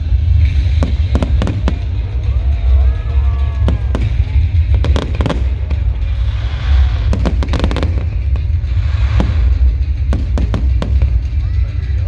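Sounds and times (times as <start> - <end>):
deep rumble: 0.0 - 12.0
fireworks cracking and banging: 0.0 - 12.0.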